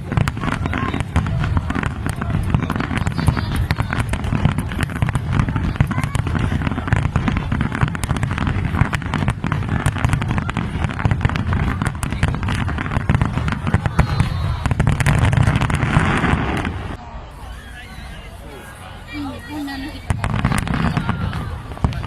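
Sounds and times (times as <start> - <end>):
fireworks bangs and crackles: 0.0 - 17.0, 19.0 - 22.0.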